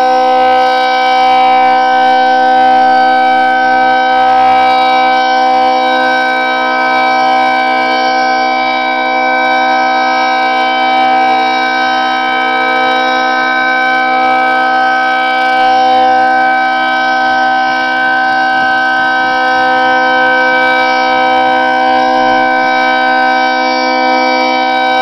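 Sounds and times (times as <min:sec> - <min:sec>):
dual-tone warning siren: 0:00.0 - 0:25.0.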